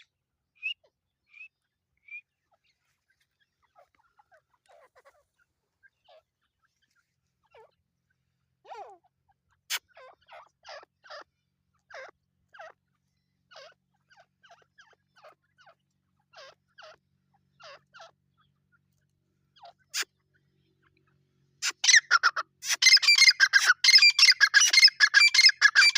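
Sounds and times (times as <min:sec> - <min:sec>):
partridges calling: 0:00.0 - 0:07.8, 0:09.7 - 0:12.8, 0:13.5 - 0:20.9, 0:21.6 - 0:25.9.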